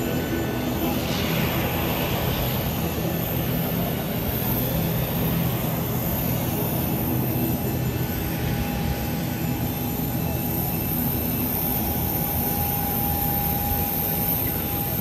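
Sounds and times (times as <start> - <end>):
faint high whine: 0.0 - 15.0
jet aircraft noise: 0.0 - 15.0.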